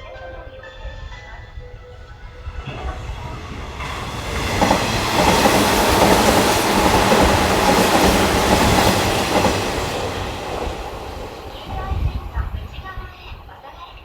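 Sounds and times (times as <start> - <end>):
train wheels clattering on rails: 0.2 - 14.0.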